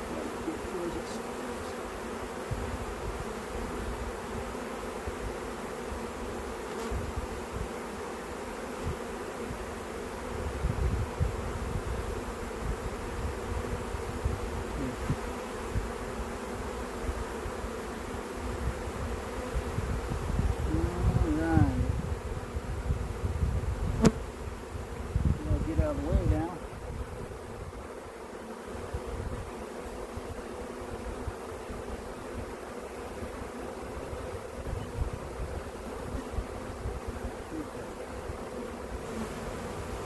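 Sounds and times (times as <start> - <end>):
bee swarm buzzing: 0.0 - 40.0.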